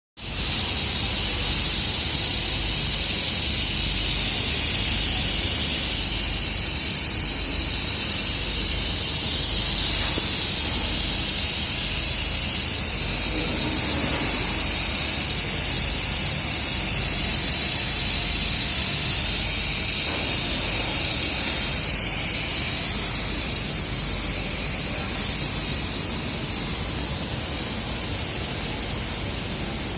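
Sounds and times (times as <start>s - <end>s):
laser welding machine hissing: 0.2s - 29.9s.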